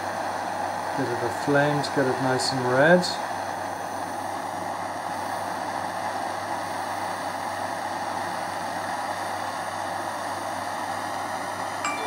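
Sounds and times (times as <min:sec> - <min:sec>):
gas torch flame hissing: 0:00.0 - 0:11.8.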